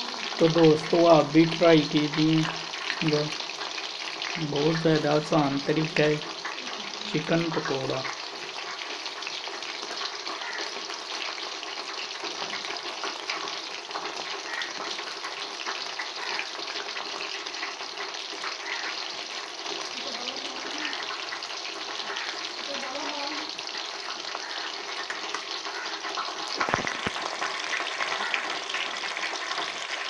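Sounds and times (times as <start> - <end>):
food deep-frying in hot oil: 0.0 - 30.0.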